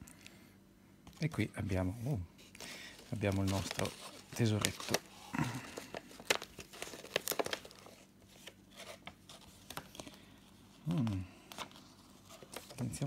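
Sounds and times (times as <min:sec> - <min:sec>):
paper crinkling and tearing: 0:02.4 - 0:13.0.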